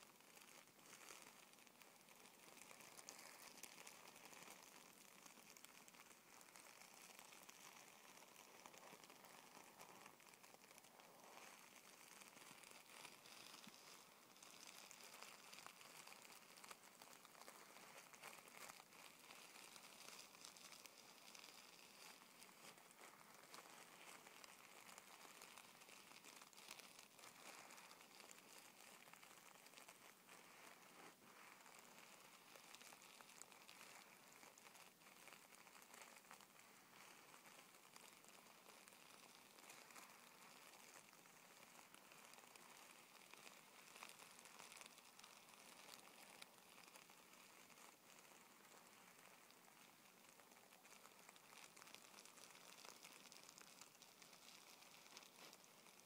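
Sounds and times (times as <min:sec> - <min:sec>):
soft high hiss: 0:00.0 - 0:56.0
tissue paper crinkling: 0:00.0 - 0:56.0.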